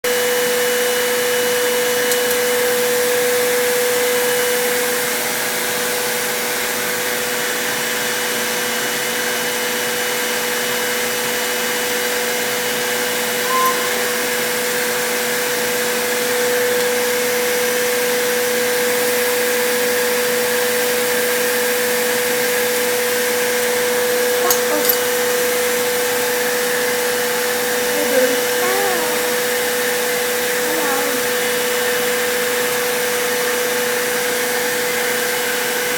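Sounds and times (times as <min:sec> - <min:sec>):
vacuum cleaner running: 0:00.1 - 0:35.9.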